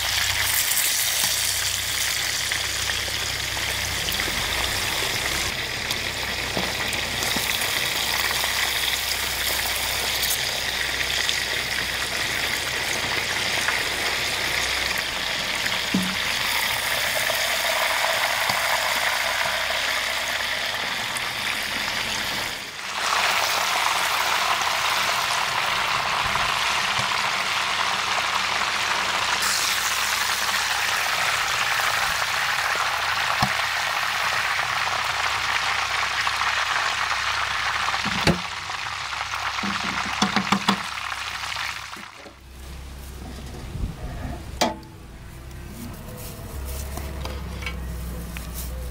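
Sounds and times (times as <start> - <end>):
steaks sizzling in fat: 0.0 - 42.2.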